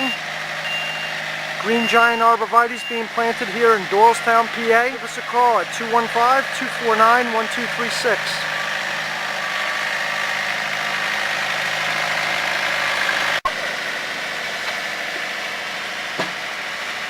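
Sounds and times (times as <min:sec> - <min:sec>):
machinery engine running: 0:00.0 - 0:17.0.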